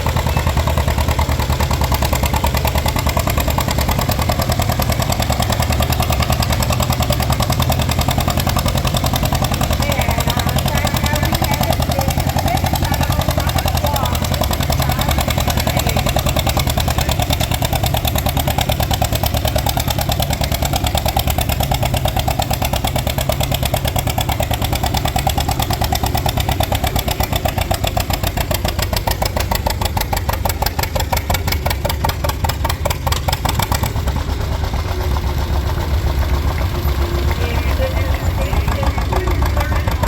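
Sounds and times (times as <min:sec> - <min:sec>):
tractor engine popping exhaust: 0:00.0 - 0:40.0.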